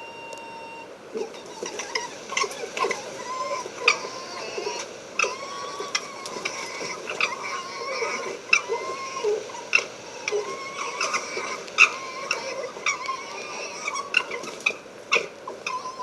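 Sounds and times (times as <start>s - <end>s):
foxes whining: 0.0s - 16.0s.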